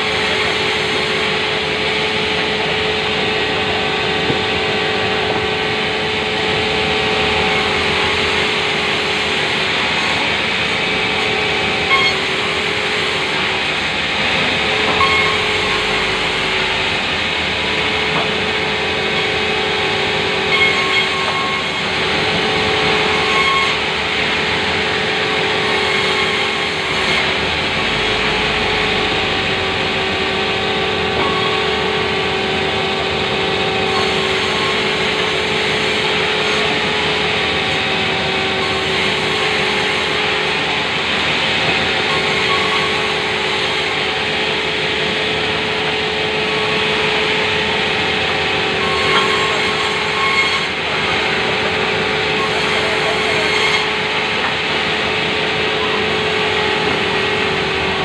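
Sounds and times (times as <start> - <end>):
sawmill saw humming: 0.0 - 58.0.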